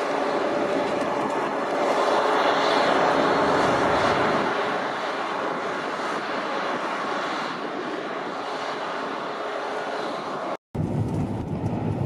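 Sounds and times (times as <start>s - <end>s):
airliner engine noise passing: 0.0s - 12.0s.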